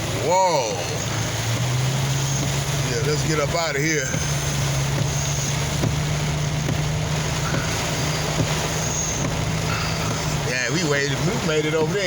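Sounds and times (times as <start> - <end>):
heavy rain and road spray hissing: 0.0 - 12.0
low engine hum: 0.0 - 12.0.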